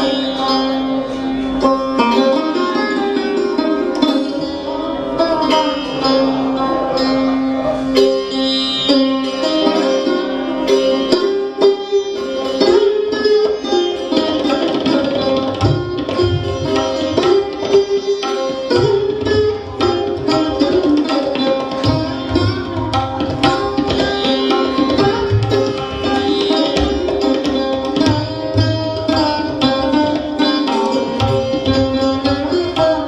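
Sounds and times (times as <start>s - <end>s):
plucked sitar and sarod melody: 0.0s - 33.0s
tabla drumming: 0.0s - 33.0s.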